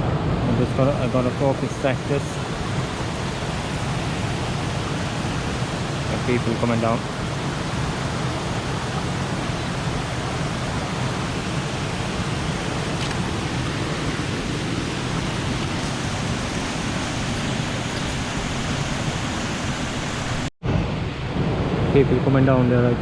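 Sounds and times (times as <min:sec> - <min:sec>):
waterfall and river rushing: 0:00.0 - 0:21.8.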